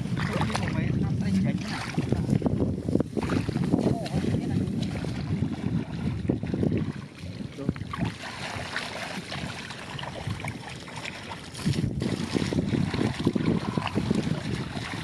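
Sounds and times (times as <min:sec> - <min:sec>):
muddy water sloshing and splashing: 0:00.0 - 0:15.0
wind buffeting microphone: 0:00.0 - 0:15.0.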